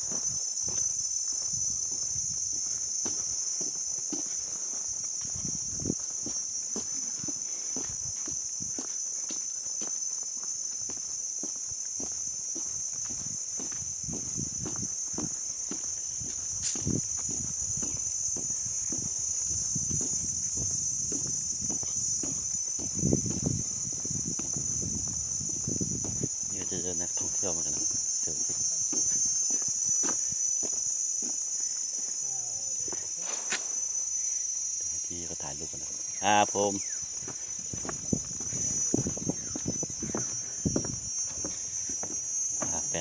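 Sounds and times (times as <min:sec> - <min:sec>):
footsteps on trail: 0:00.0 - 0:32.2, 0:35.8 - 0:43.0
insects buzzing: 0:00.0 - 0:43.0.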